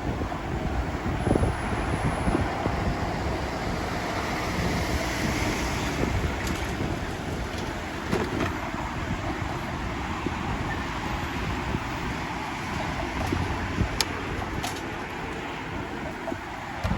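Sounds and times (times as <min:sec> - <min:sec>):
road and traffic noise: 0:00.0 - 0:16.9
wind buffeting microphone: 0:00.0 - 0:16.9.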